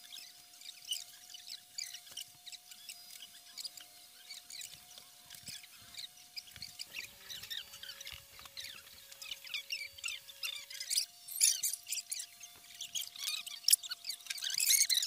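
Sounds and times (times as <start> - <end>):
high-pitched squeaks and chirps: 0.0 - 15.0.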